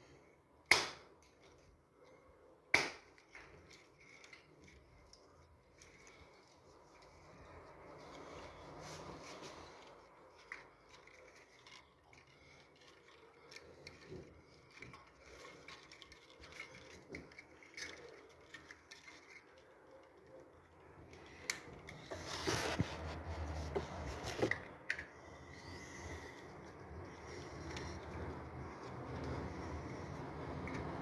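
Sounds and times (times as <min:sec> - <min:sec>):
stiff wires clicking and rubbing: 0:00.7 - 0:31.0
scraping and rustling: 0:03.5 - 0:31.0.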